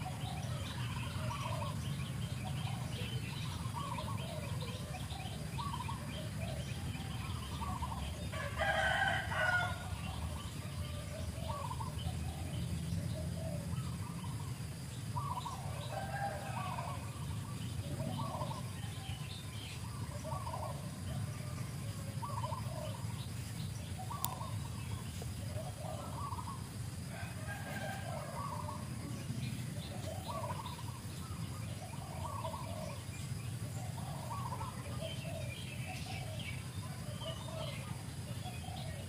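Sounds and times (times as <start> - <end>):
birds chirping: 0.0 - 39.0
steady low hum: 0.0 - 39.0.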